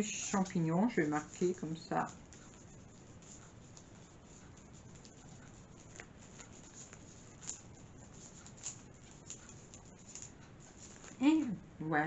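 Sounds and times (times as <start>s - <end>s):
pen scratching on paper: 0.0s - 11.2s.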